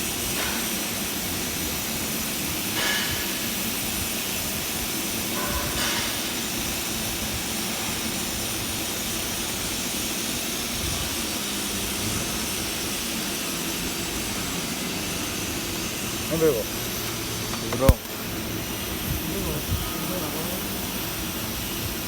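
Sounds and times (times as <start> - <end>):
welding hiss: 0.0 - 22.0.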